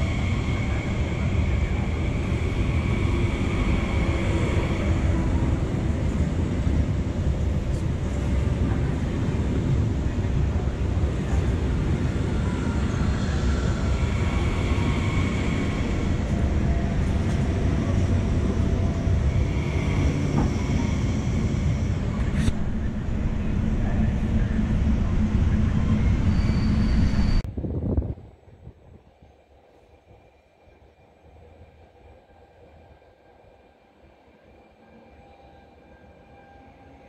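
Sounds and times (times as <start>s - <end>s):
train wheels rumbling on rail: 0.0s - 30.8s.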